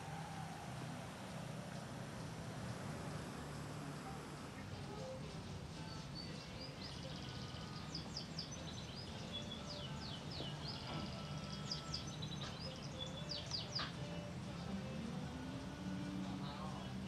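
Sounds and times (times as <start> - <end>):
low outdoor ambient hum: 0.0 - 17.0
small birds chirping: 0.0 - 17.0.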